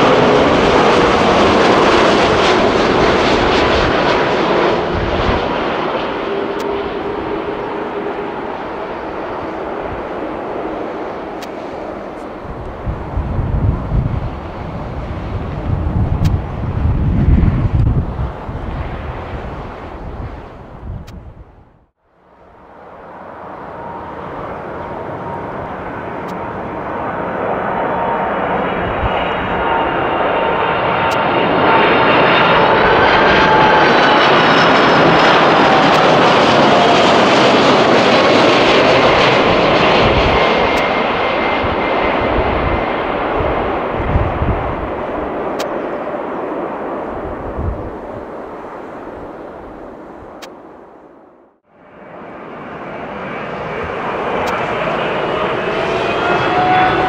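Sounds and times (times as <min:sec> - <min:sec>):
jet airliner flying past: 0:00.0 - 0:57.0.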